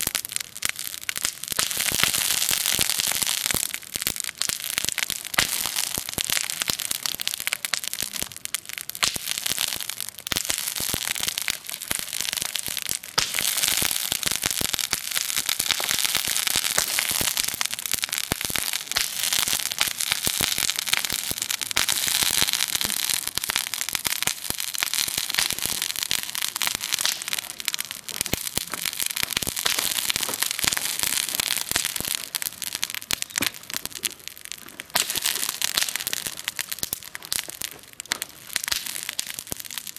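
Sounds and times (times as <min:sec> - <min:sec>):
campfire crackling and popping: 0:00.0 - 0:39.9
hiss of burning fire: 0:00.0 - 0:39.9.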